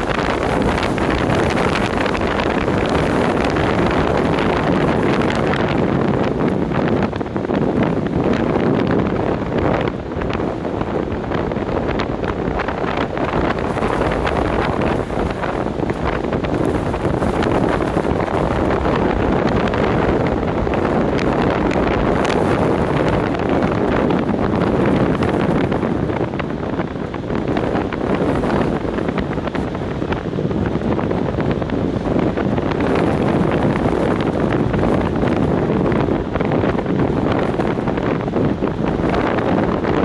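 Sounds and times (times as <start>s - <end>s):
storm wind buffeting microphone: 0.0s - 40.0s.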